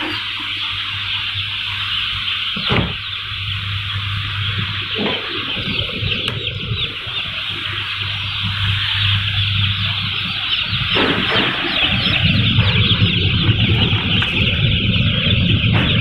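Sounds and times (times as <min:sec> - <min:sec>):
chicks peeping: 0:00.0 - 0:16.0
low machine hum: 0:00.0 - 0:16.0
deep rumble: 0:00.8 - 0:16.0.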